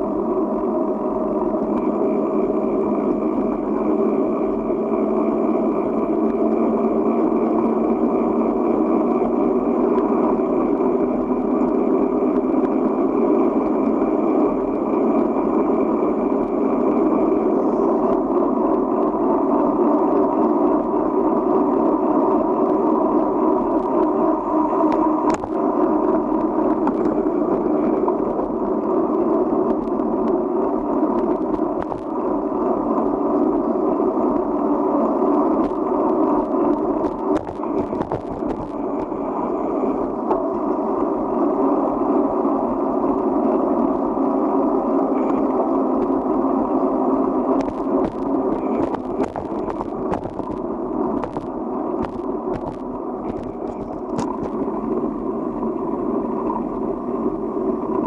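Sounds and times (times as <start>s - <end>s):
wind and rolling noise: 0.0s - 58.0s.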